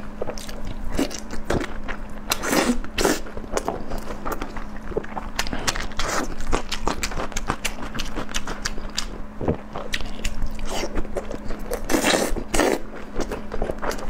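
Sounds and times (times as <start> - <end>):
person chewing noodles: 0.2 - 14.0.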